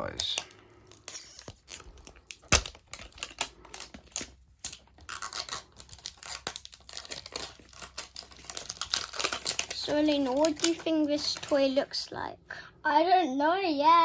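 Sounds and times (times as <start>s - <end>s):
plastic wrapping crinkling and tearing: 0.0s - 12.0s.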